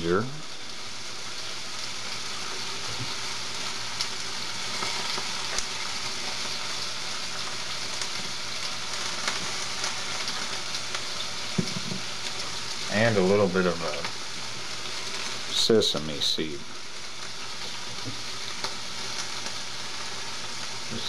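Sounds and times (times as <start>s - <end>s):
chicken sizzling in a skillet: 0.0s - 21.0s.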